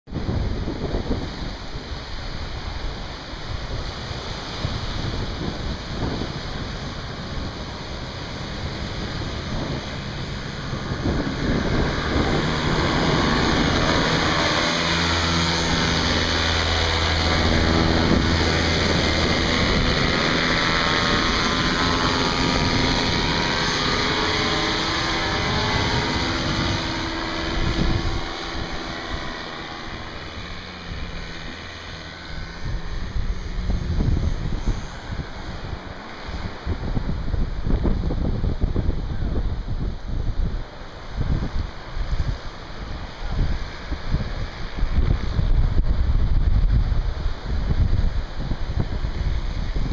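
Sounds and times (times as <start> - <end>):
surf: 0.1 - 49.9
wind on microphone: 0.1 - 49.9
paramotor engine passing overhead: 0.2 - 49.9.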